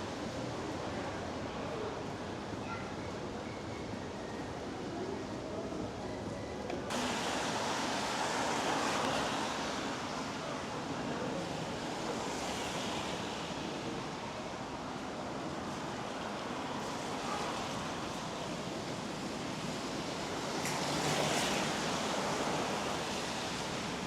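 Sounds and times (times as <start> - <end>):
rain on a wet street: 0.0 - 3.4, 6.7 - 24.0.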